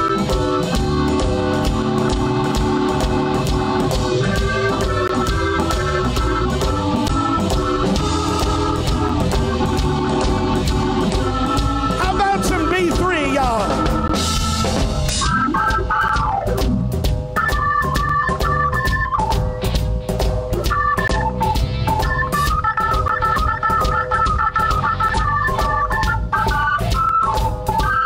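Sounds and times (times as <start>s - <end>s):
blues band playing: 0.0s - 28.0s.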